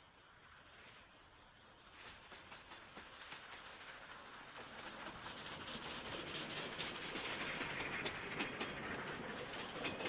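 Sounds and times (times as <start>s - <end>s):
steam locomotive passing: 0.0s - 10.0s
train wheels clacking over rail joints: 1.8s - 10.0s.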